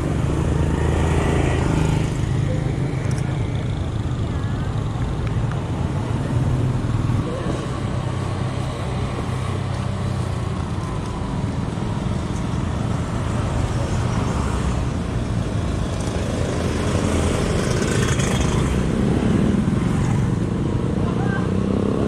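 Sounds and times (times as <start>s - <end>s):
motorcycle engines running: 0.0s - 22.0s
wind and road noise rumble: 0.0s - 22.0s.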